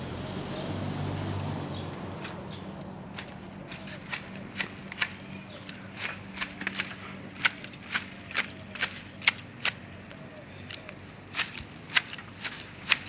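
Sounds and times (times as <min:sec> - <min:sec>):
garden shears snipping: 0:02.0 - 0:13.0.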